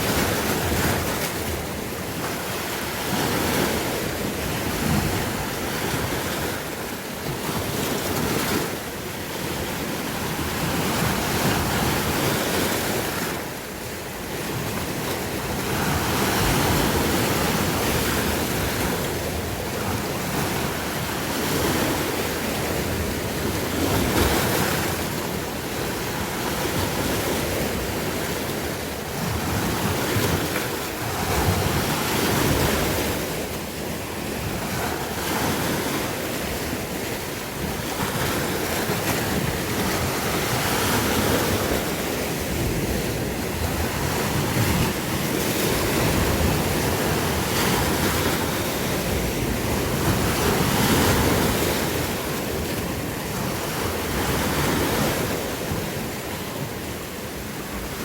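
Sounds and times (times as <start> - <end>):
sea waves breaking on shore: 0.0 - 58.0
wind on microphone: 0.0 - 58.0.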